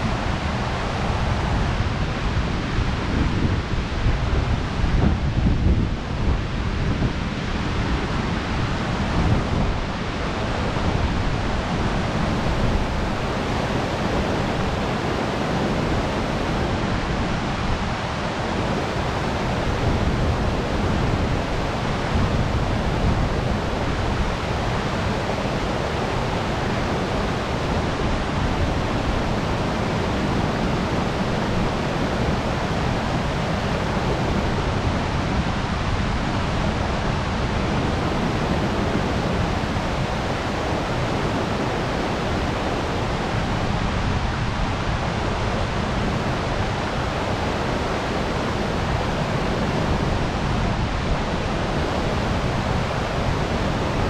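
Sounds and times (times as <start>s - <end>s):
river water roaring over dam: 0.0s - 54.0s.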